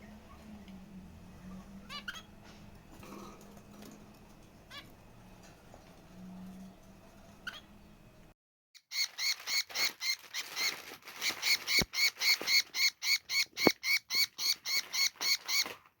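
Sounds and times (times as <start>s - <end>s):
baby bird chirping: 0.0s - 6.6s, 7.4s - 7.9s, 8.8s - 15.8s.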